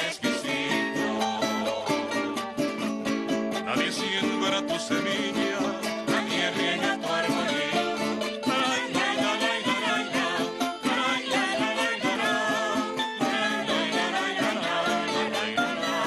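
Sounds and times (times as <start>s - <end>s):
plucked string instruments: 0.0s - 16.0s
voices singing: 0.0s - 16.0s.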